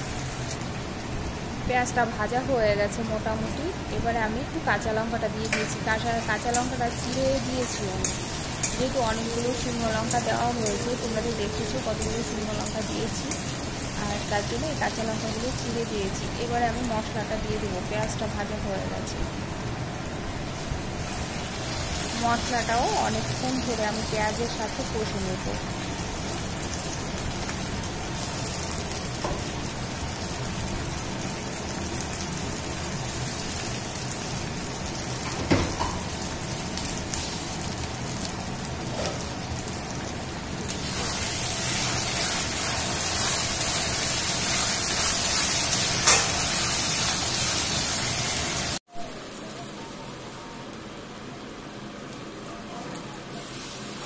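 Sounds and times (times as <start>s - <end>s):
onions sizzling in oil: 0.0s - 54.0s.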